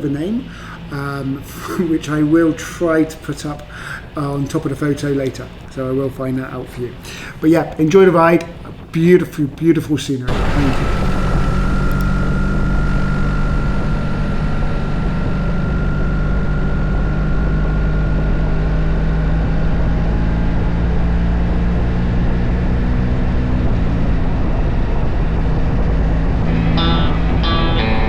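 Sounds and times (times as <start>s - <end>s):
motorcycle engine cruising: 0.0s - 9.0s, 10.3s - 28.0s
wind and road noise: 0.0s - 27.6s.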